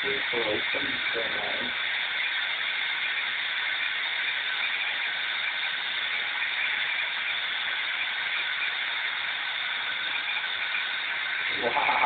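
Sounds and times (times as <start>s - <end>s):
dental equipment hiss and whine: 0.0s - 12.0s.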